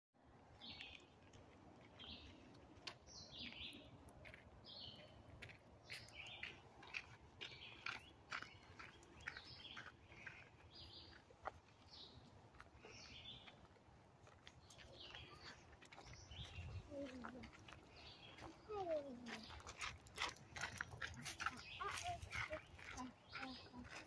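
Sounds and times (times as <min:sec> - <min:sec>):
songbirds chirping: 0:00.2 - 0:24.0.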